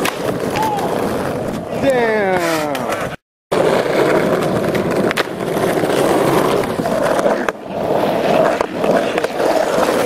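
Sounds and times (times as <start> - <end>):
skateboard wheels rolling on asphalt: 0.0 - 10.0.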